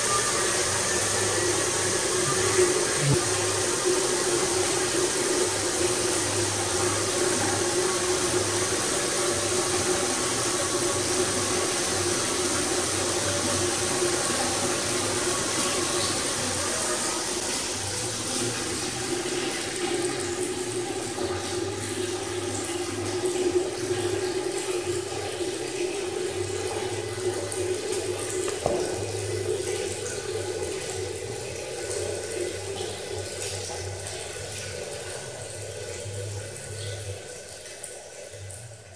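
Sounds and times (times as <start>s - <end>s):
water pouring into bucket: 0.0s - 38.9s.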